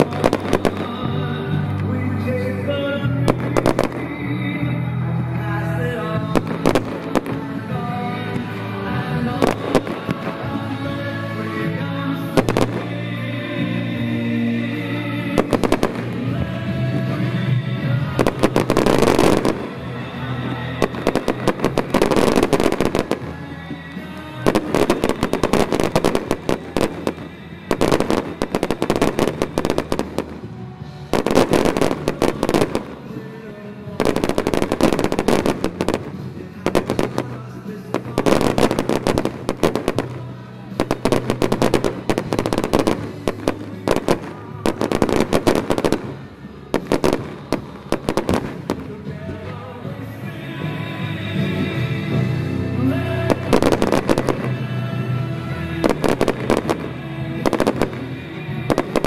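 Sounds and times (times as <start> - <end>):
fireworks bursting and crackling: 0.0 - 50.3, 51.1 - 59.0
music playing: 0.0 - 59.0.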